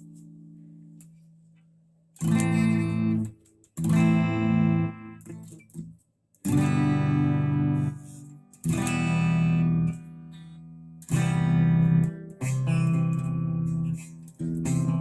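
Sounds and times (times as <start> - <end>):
electric guitar chords strummed: 2.2 - 5.8, 6.4 - 15.0.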